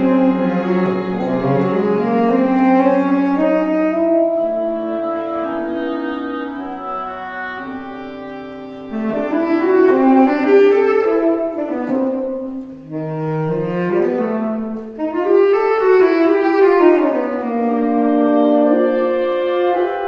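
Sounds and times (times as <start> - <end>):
tenor saxophone solo: 0.0 - 20.0
winds and strings ensemble: 0.0 - 20.0.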